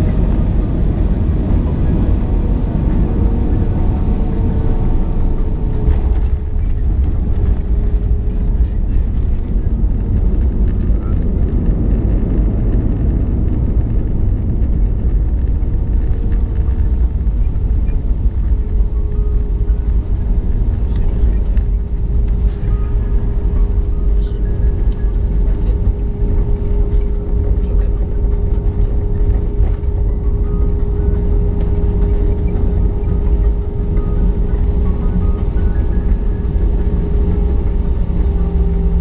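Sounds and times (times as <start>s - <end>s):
jet engines and wheels rumbling: 0.0s - 39.0s
steady hum tone: 0.0s - 39.0s.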